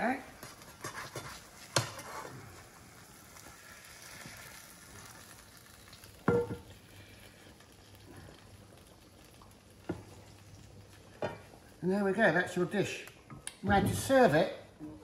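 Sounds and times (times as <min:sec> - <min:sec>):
fat sizzling in frying pan: 0:00.0 - 0:15.0.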